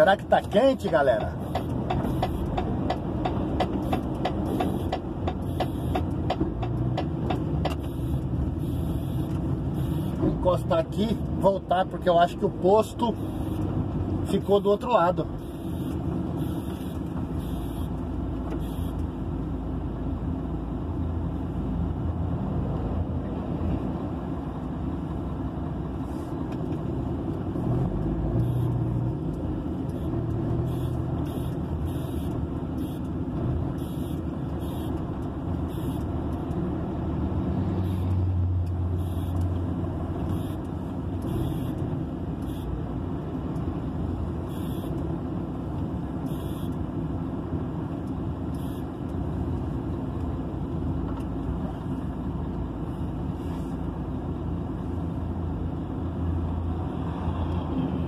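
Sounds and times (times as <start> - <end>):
diesel truck engine rumble: 0.0 - 58.0
passing vehicles: 0.0 - 58.0.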